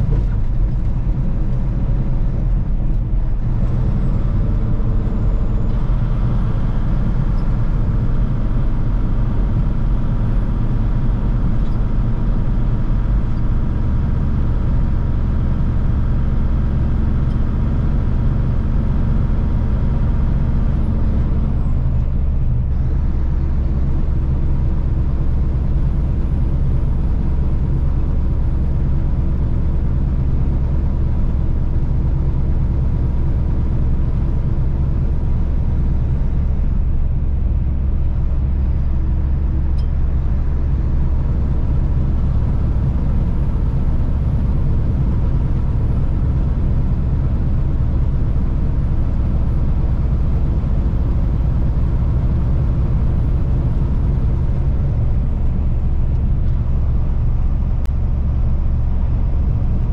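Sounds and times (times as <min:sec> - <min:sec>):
road noise: 0:00.0 - 0:59.9
truck diesel engine drone: 0:00.0 - 0:59.9.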